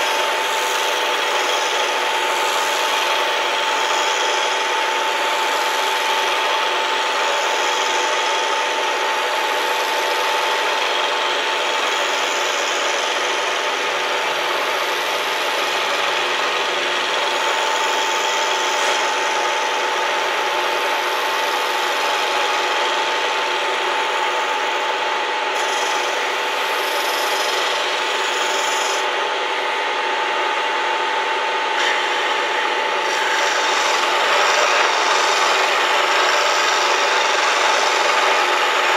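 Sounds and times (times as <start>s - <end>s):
cutter rasping through metal: 0.0s - 38.9s
milling machine spindle whine: 0.0s - 38.9s.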